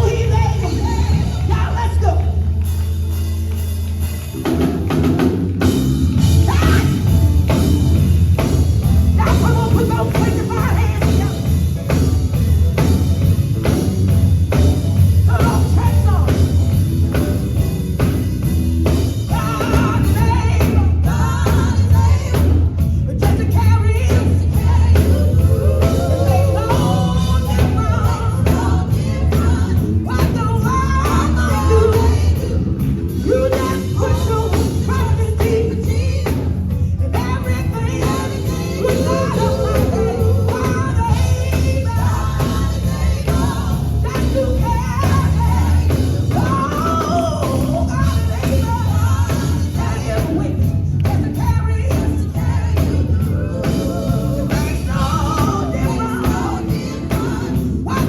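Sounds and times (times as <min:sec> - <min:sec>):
vocal group singing gospel: 0:00.0 - 0:02.6, 0:04.4 - 0:58.0
band with drum kit: 0:00.0 - 0:58.0
steady bass line: 0:00.0 - 0:58.0.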